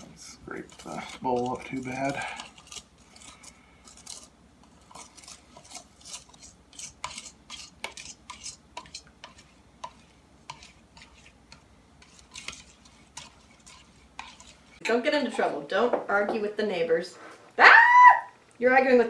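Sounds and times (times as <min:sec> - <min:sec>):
utensil scraping metal bowl: 0:00.0 - 0:15.4.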